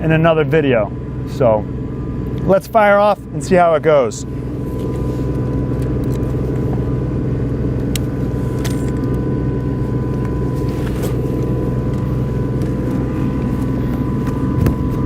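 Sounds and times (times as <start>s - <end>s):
machine engine hum: 0.0s - 15.0s.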